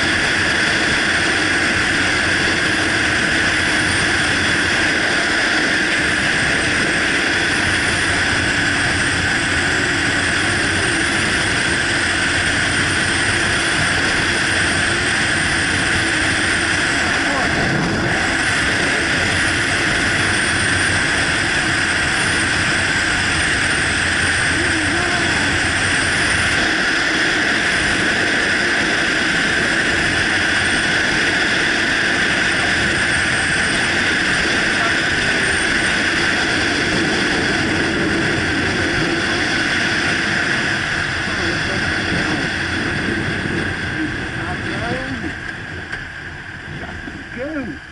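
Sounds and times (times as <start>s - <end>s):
motorcycle engine: 0.0s - 30.6s, 31.2s - 47.9s
wind rush on microphone: 0.0s - 47.9s.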